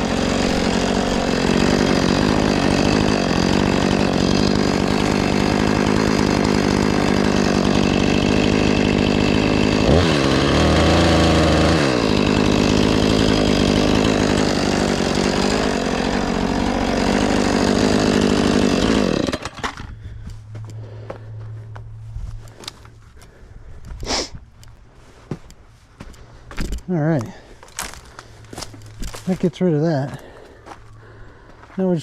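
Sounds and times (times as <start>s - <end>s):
chainsaw running: 0.0s - 24.8s, 26.0s - 32.0s.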